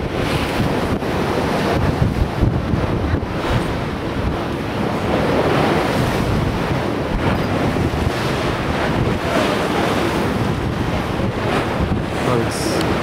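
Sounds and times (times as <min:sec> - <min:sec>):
rush of sea water: 0:00.0 - 0:13.0
wind buffeting microphone: 0:00.0 - 0:13.0.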